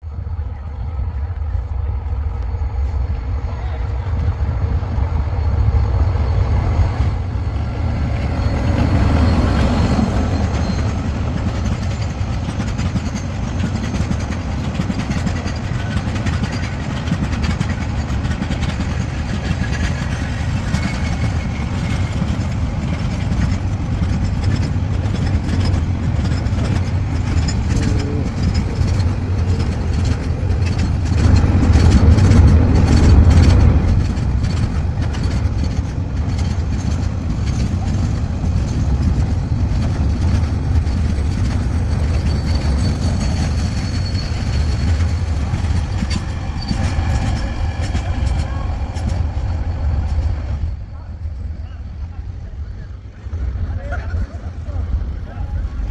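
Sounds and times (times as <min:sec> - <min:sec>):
freight train rumbling: 0:00.0 - 0:55.9
wheels clattering on rails: 0:05.8 - 0:55.9.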